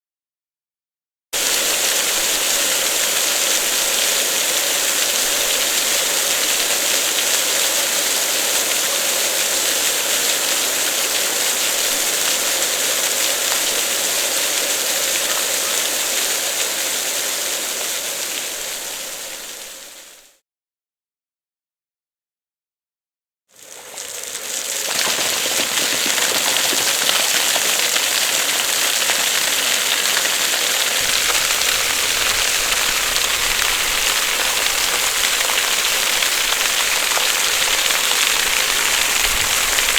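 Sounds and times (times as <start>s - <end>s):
water fountain splashing: 1.4s - 20.3s, 23.5s - 39.9s.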